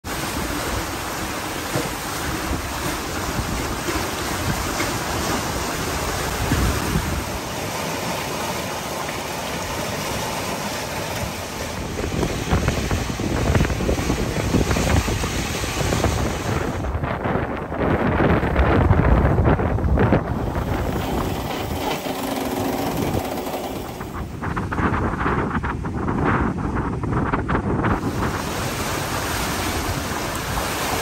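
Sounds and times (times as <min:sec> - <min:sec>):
water rushing along a boat hull: 0:00.0 - 0:31.0
wind buffeting microphone: 0:00.2 - 0:07.5, 0:11.5 - 0:31.0.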